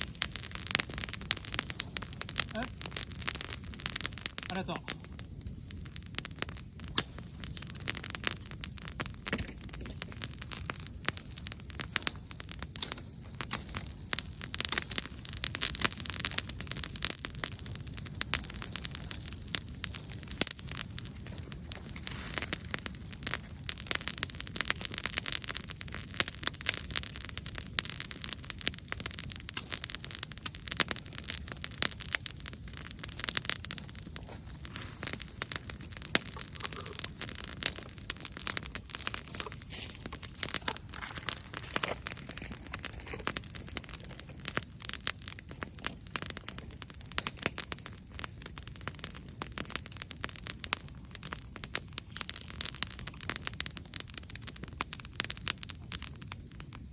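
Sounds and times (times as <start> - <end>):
wood bonfire crackling: 0.0 - 56.9.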